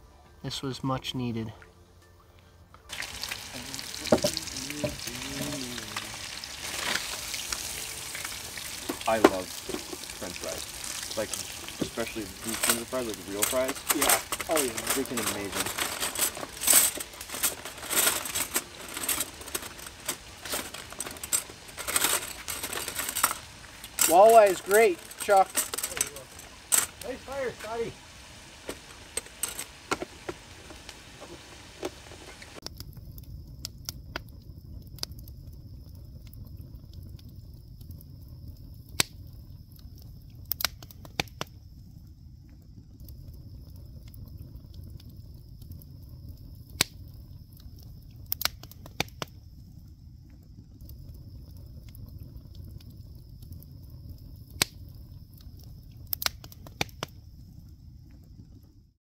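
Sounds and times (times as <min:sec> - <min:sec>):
campfire burning with crackles: 0:00.0 - 0:59.0
fire crackling and popping: 0:02.8 - 0:59.0.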